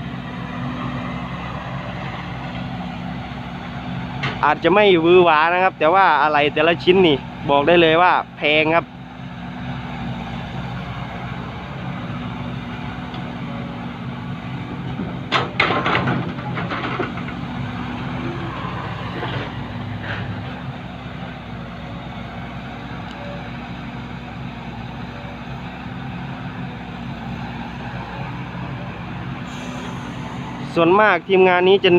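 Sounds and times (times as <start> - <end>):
diesel truck engines running: 0.0 - 31.9.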